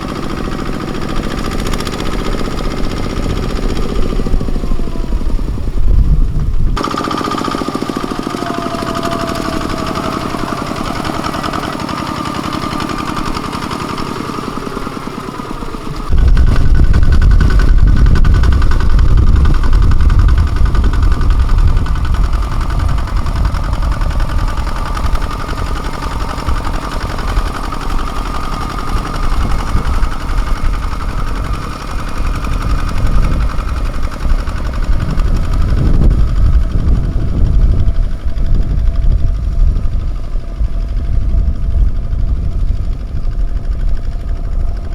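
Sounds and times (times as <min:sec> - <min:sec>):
diesel tractor engine knocking: 0:00.0 - 0:44.9
steady whine: 0:00.0 - 0:44.9.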